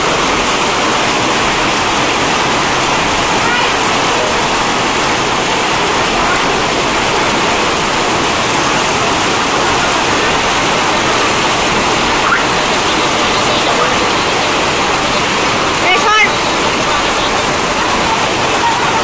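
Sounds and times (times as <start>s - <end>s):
hail on tin roofs: 0.0s - 19.0s.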